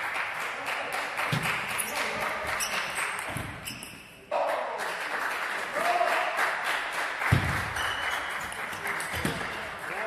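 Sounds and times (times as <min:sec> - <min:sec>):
sports hall murmur: 0:00.0 - 0:10.0.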